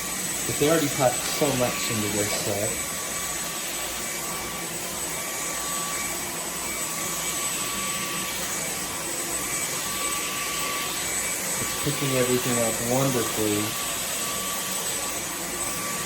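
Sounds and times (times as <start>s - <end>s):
cordless vacuum running: 0.0s - 16.0s.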